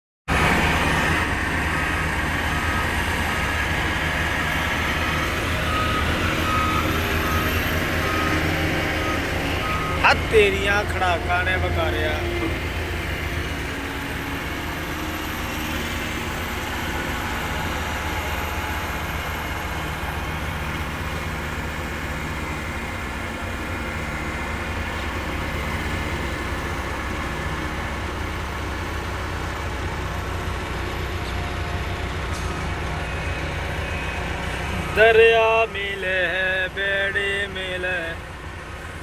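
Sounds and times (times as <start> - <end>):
diesel engine running: 0.3 - 39.0.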